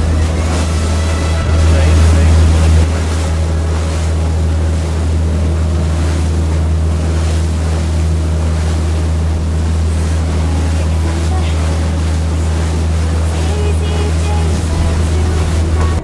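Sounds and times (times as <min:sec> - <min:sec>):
boat engine droning: 0:00.0 - 0:16.0
water rushing past hull: 0:00.0 - 0:16.0
wind on microphone: 0:00.0 - 0:16.0.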